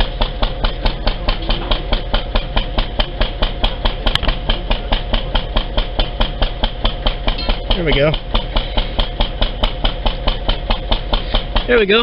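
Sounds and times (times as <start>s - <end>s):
machine hum: 0.0s - 12.0s
machine knocking rhythmically: 0.0s - 12.0s.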